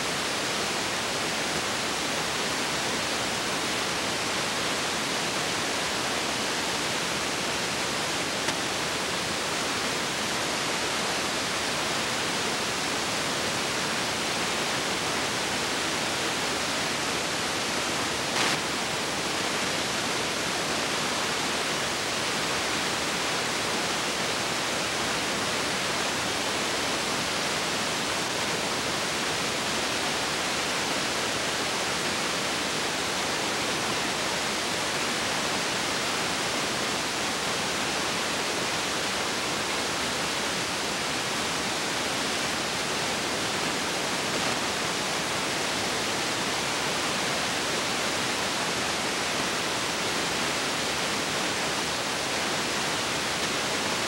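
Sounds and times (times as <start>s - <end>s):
steady film hiss: 0.0s - 54.0s.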